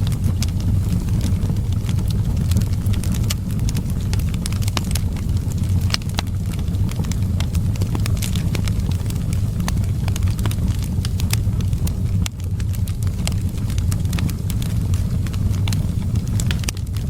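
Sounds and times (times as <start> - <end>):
low rumble: 0.0 - 17.0
wood fire crackling: 0.0 - 17.0.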